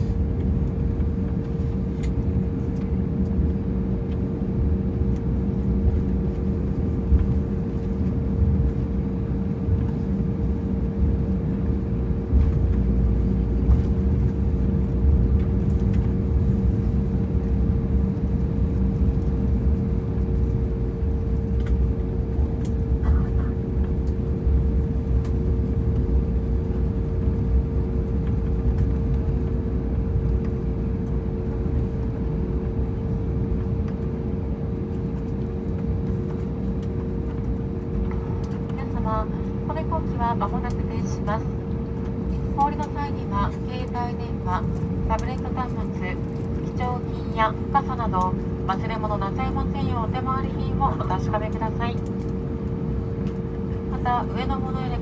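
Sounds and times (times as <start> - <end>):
aircraft engine hum: 0.0 - 55.0
low cabin rumble: 0.0 - 55.0.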